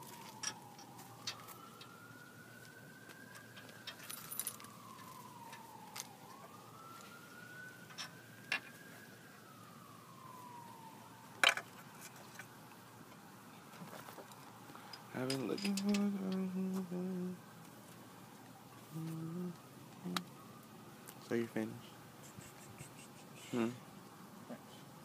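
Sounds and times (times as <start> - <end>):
distant siren wailing: 0.0 - 25.0.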